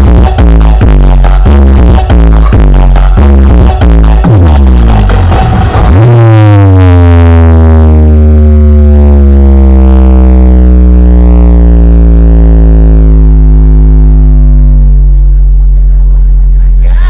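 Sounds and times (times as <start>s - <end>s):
deep bass synth tone sliding down: 0.0s - 17.0s
electronic dance music: 0.0s - 17.0s.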